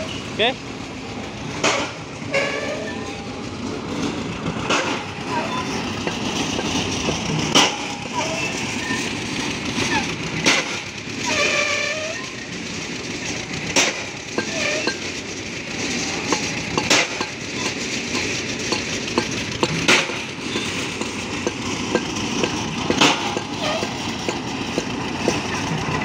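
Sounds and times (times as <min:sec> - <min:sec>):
rig engine running: 0:00.0 - 0:26.0
pile hammer metallic clanks: 0:01.5 - 0:03.3, 0:03.9 - 0:26.0.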